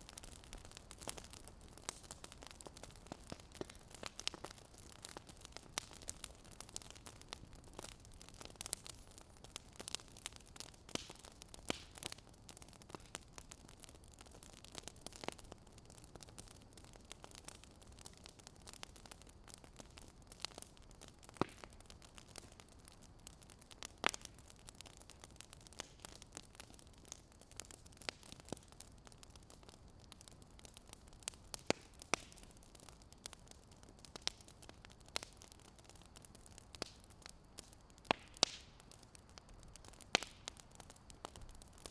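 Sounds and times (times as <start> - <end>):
fire crackling: 0.0 - 41.9.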